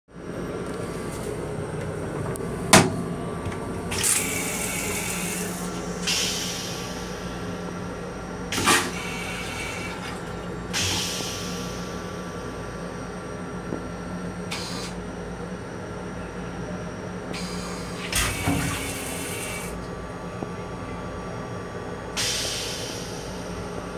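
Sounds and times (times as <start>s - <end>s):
railcar steady hum: 0.1s - 23.9s.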